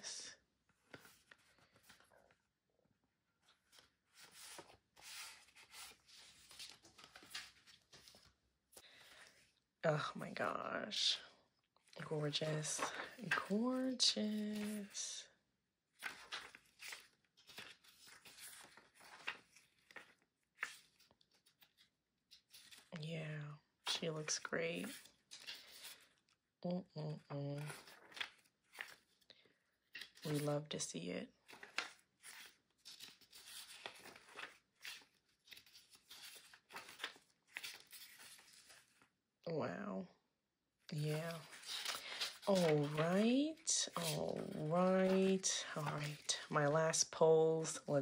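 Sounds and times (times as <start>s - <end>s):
paper booklet pages rustling: 0.6s - 2.5s, 3.4s - 9.6s, 11.8s - 15.3s, 15.9s - 26.4s, 27.1s - 39.2s, 40.9s - 48.0s.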